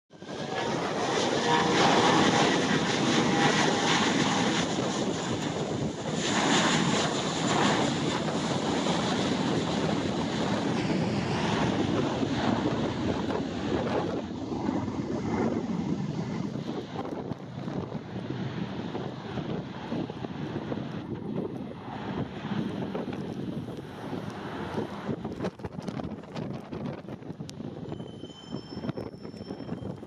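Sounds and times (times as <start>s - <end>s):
jet engine roar: 0.1s - 30.0s.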